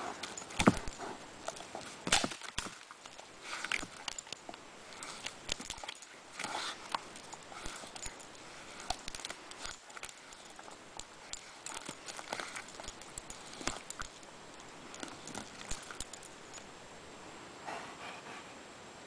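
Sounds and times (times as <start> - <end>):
dog chewing a branch: 0.0 - 16.8
leaves rustling: 0.0 - 17.5.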